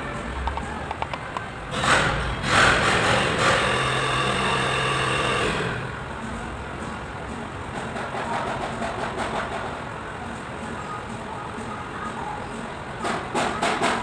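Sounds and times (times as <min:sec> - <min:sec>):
engine running: 0:00.0 - 0:12.1.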